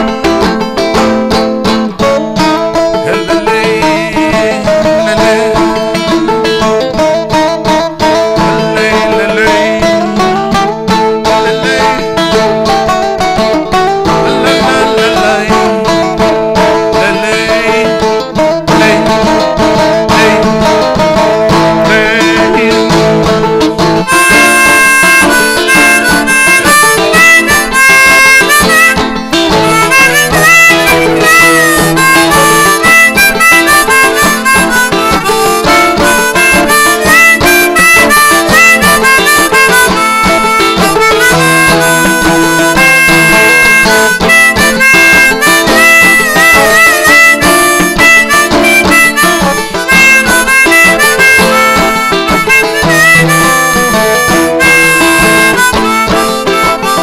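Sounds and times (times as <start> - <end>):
banjo picking: 0.0 - 57.0
harmonica melody: 0.0 - 57.0.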